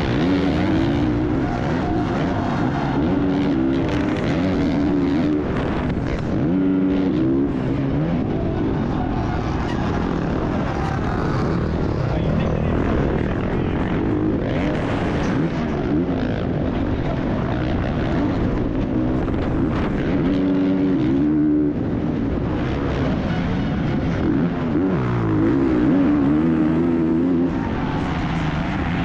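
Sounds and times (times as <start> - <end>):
motocross engine at race pace: 0.0 - 29.0.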